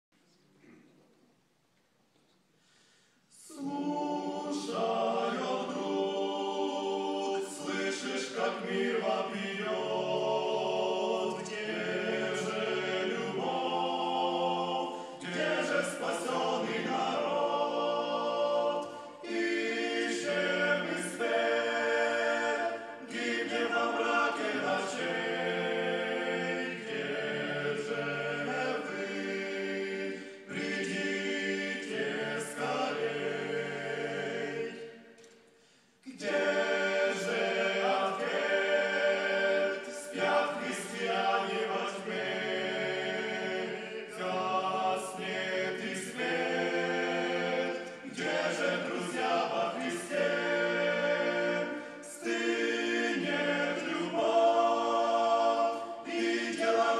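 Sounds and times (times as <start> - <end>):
voices singing a cappella: 2.6 - 56.9.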